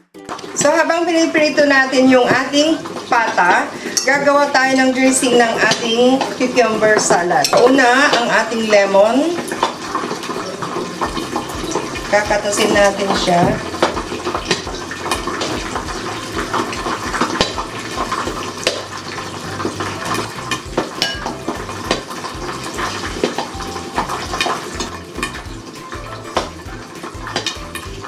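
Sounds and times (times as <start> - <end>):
meat sizzling in hot oil: 0.3 - 28.0.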